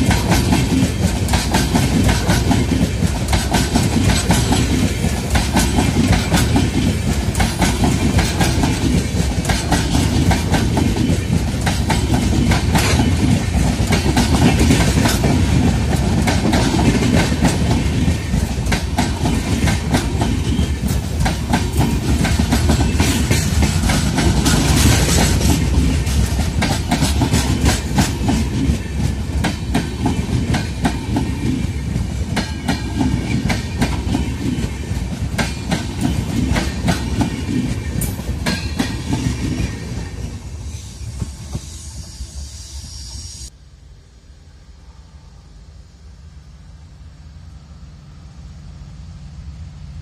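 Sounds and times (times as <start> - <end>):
train wheels clattering over rail joints: 0.0 - 40.4
train rumble: 0.0 - 50.0.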